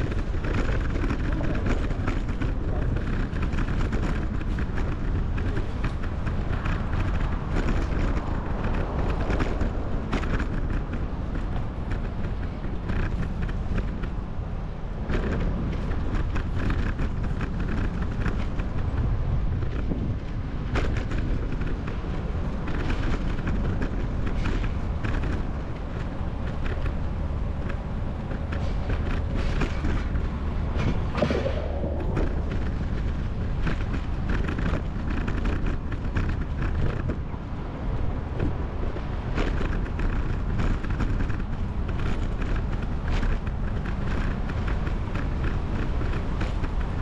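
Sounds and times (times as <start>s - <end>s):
bicycle clicks and creaks: 0.0s - 47.0s
wind rumble on microphone: 0.0s - 47.0s.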